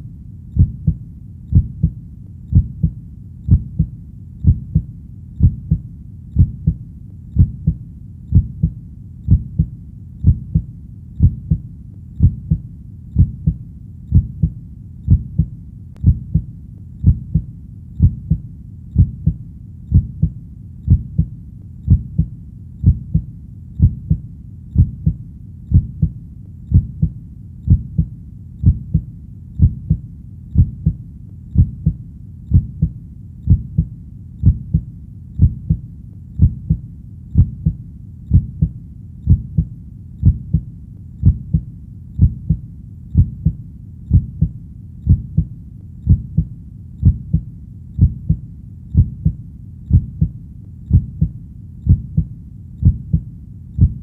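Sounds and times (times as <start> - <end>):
heartbeat thumps: 0.6 - 6.8, 7.4 - 42.6, 43.2 - 54.0.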